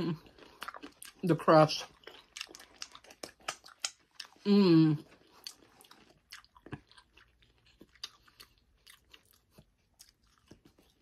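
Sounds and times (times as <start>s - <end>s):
faint crunchy chewing: 0.0s - 11.0s.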